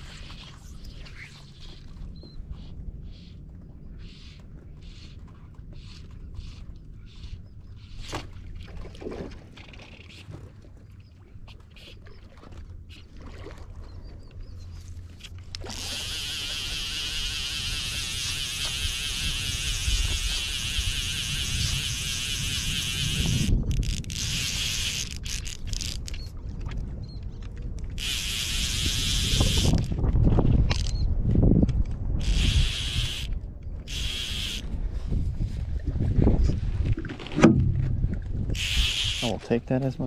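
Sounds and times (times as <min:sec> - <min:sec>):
boat engine rumble: 0:00.0 - 0:40.0.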